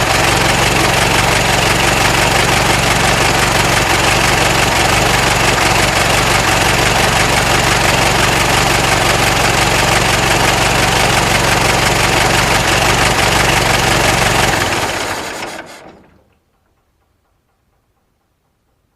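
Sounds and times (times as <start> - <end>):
car engine idling and stopping: 0.0 - 18.9.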